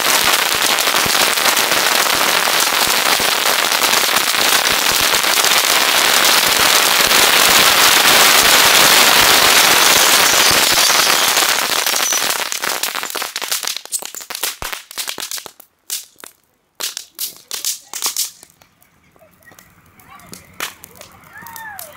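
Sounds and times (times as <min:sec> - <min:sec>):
fireworks crackling and popping: 0:00.0 - 0:21.9.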